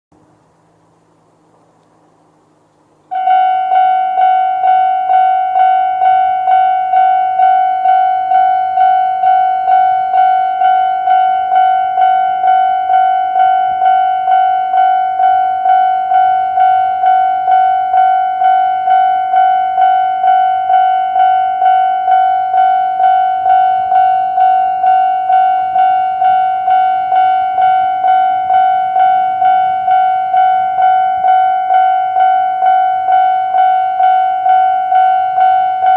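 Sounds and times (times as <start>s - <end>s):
level crossing warning bell: 3.1s - 35.9s.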